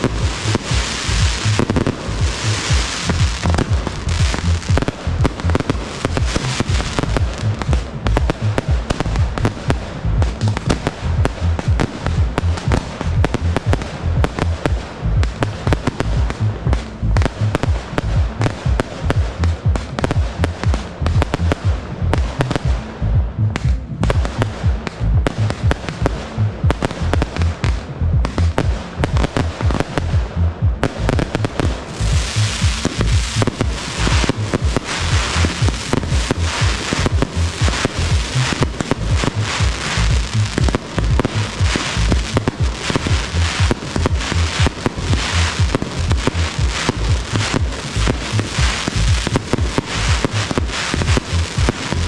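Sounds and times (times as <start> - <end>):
fireworks bangs and thuds: 0.0 - 52.0
fireworks crackling: 0.0 - 52.0.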